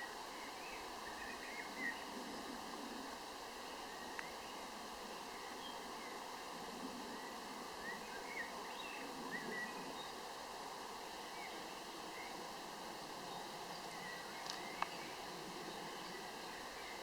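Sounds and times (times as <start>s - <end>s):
songbirds chirping: 0.0s - 17.0s
steady outdoor hiss: 0.0s - 17.0s.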